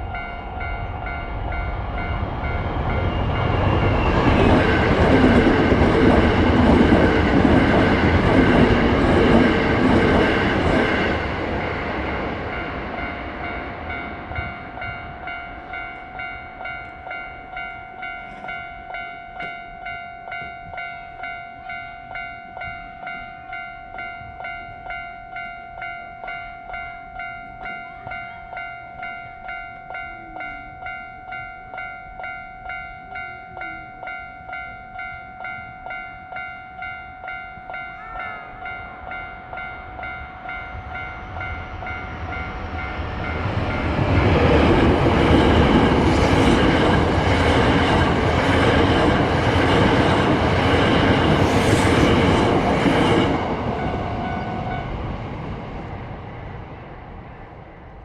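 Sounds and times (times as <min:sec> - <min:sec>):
level crossing warning bell: 0:00.0 - 0:55.2
train running past: 0:00.0 - 0:58.0.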